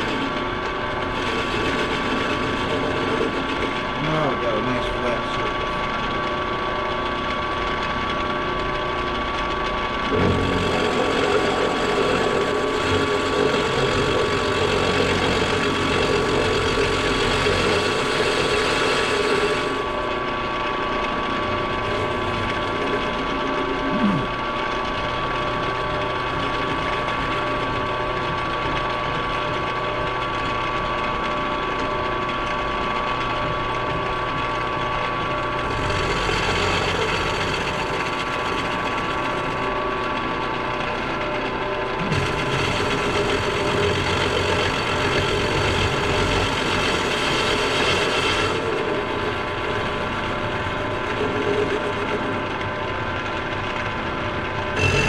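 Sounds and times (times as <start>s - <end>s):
milling machine whine: 0.0s - 55.0s.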